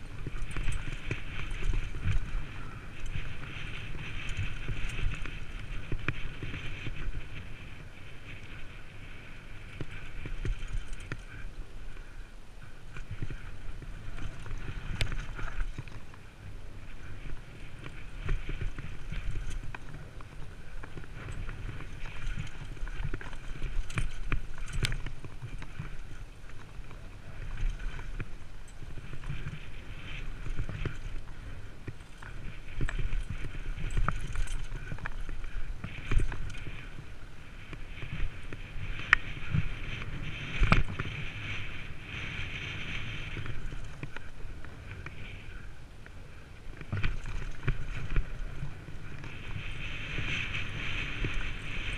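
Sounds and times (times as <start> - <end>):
bike tyres rumbling on dirt: 0.0 - 51.9.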